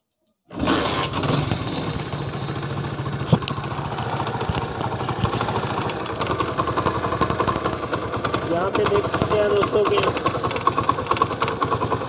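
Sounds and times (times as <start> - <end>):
motorcycle engine idling: 0.6 - 12.0.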